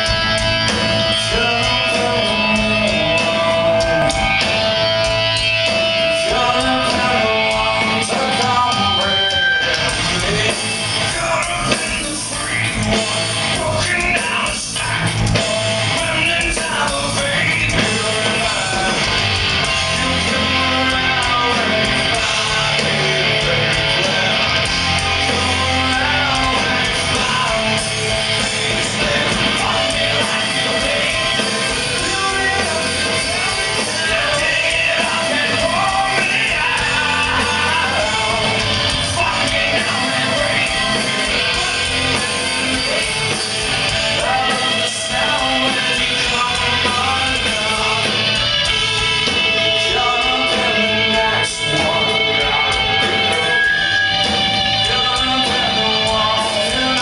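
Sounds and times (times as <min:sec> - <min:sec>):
live rock band playing: 0:00.0 - 0:57.0
person singing lead vocal: 0:00.0 - 0:57.0.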